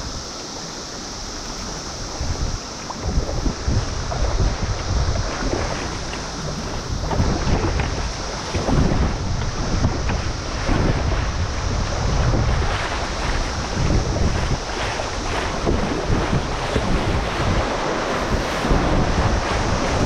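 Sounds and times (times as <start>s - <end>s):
river water rushing and splashing: 0.0s - 20.0s
wind buffeting microphone: 0.0s - 20.0s.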